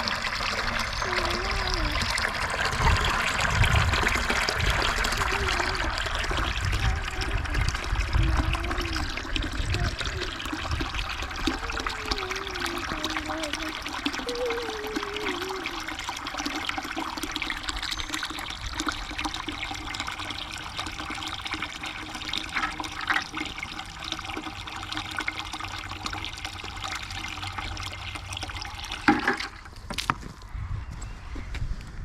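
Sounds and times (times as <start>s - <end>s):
rushing water: 0.0s - 29.6s.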